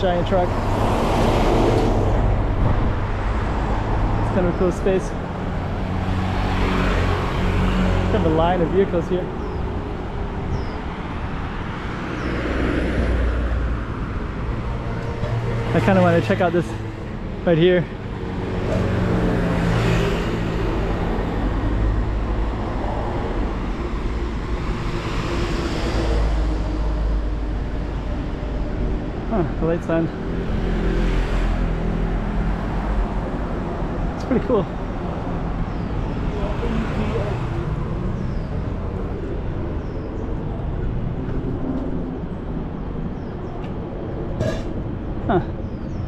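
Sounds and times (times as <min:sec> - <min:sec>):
road traffic rumble: 0:00.0 - 0:46.0
vehicles driving past: 0:00.0 - 0:46.0.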